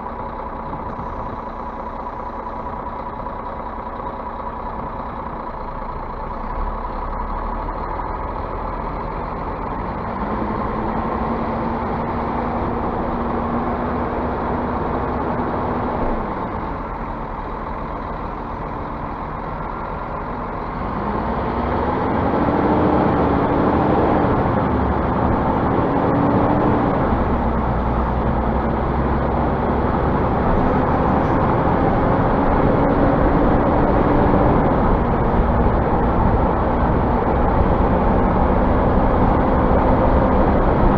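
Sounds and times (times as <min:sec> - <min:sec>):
bus diesel engine pulling through gears: 0:00.0 - 0:40.9.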